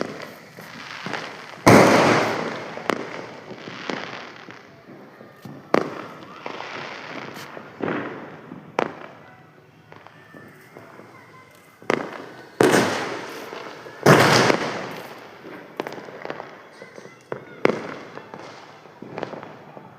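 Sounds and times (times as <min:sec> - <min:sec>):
fireworks bangs: 0:00.0 - 0:19.9
smaller firework cracks: 0:00.0 - 0:19.9.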